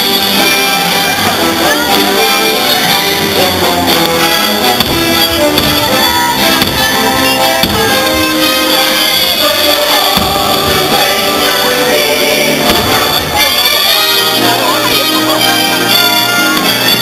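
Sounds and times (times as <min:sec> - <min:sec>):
instrumental music over loudspeakers: 0:00.0 - 0:17.0.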